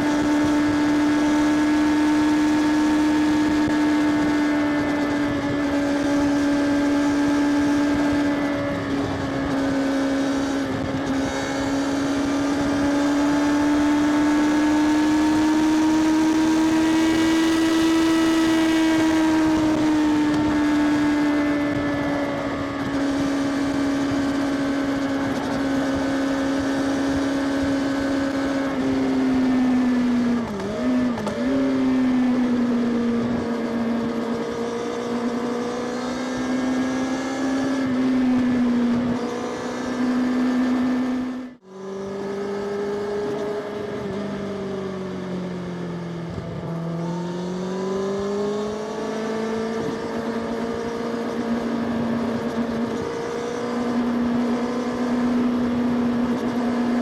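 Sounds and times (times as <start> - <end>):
motorcycle engine and exhaust: 0.0 - 57.0.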